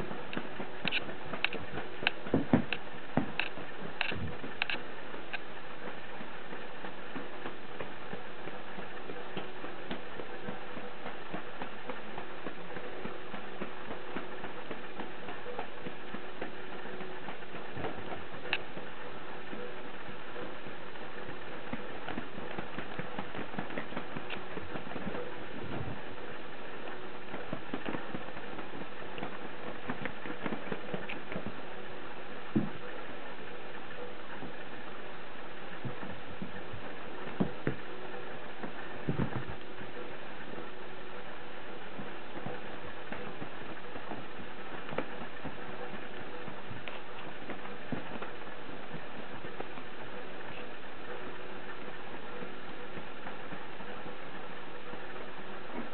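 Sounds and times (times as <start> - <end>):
steady hiss: 0.0 - 55.9
steady low hum: 0.0 - 55.9.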